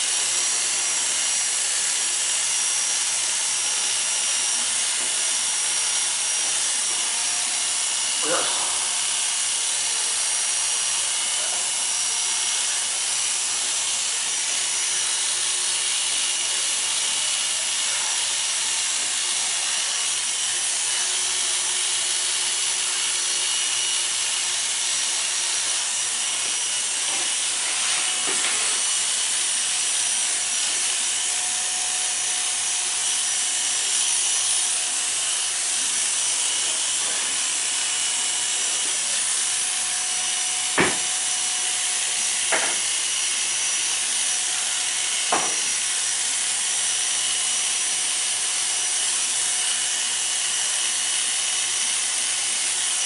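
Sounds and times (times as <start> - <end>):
electric hair clippers cutting hair: 0.0 - 53.0.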